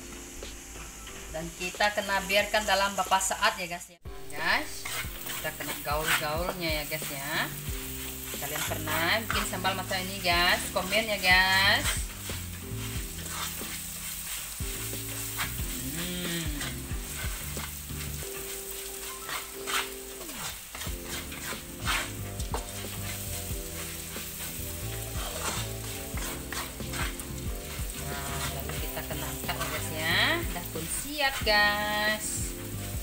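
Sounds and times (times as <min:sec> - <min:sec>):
food sizzling in oil: 0:00.0 - 0:33.0
spatula scraping pan: 0:04.2 - 0:33.0.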